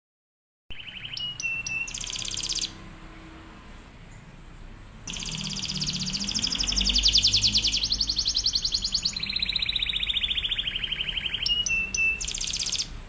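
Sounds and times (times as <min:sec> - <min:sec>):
canary singing trills: 0:00.7 - 0:04.4, 0:05.0 - 0:13.0.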